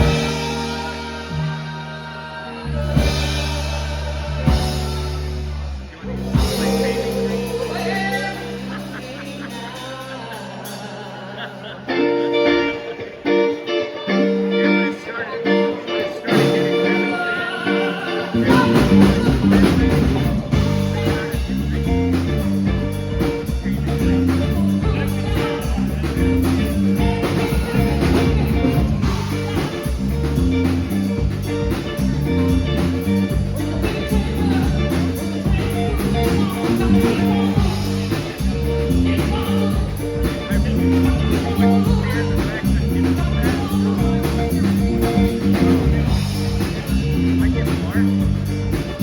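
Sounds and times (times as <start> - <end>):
drum kit: 0.0 - 11.2, 16.0 - 49.0
bass guitar: 0.0 - 49.0
strummed guitar: 2.6 - 49.0.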